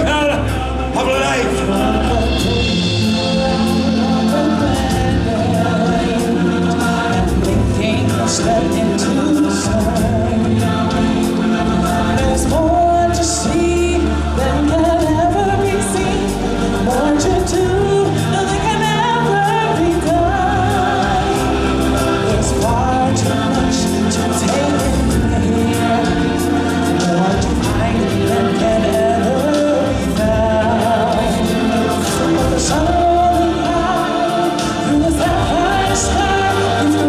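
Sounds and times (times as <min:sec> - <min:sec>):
band with bass and percussion: 0:00.0 - 0:37.0
singers in chorus: 0:00.0 - 0:37.0.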